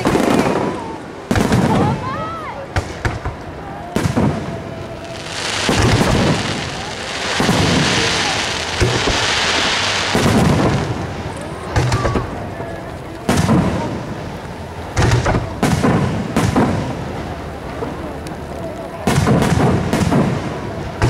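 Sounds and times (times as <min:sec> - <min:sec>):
fireworks bursting: 0:00.0 - 0:21.0
fireworks crackling: 0:00.0 - 0:21.0
rolling rumble: 0:00.0 - 0:21.0.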